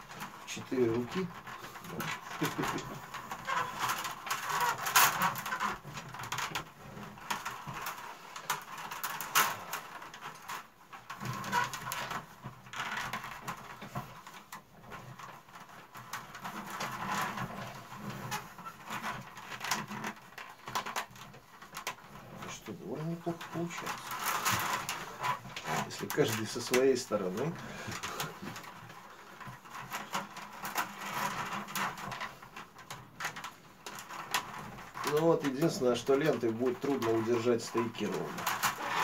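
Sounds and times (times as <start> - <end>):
scratching: 0.0 - 39.0
willow strips rustling and creaking: 0.0 - 39.0.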